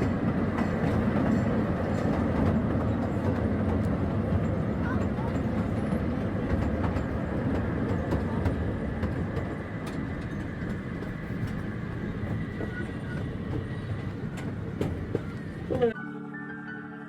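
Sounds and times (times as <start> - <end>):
small train rumbling on track: 0.0 - 16.0.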